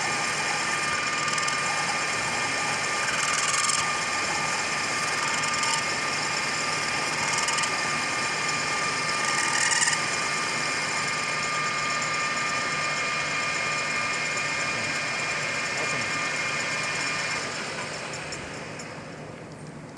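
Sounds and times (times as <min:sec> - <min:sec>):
lathe whining: 0:00.0 - 0:19.9.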